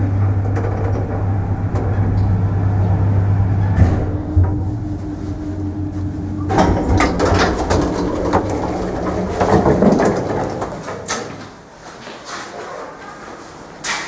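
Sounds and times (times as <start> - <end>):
elevator motor humming: 0.0 - 11.5
elevator doors clattering open: 0.0 - 11.7.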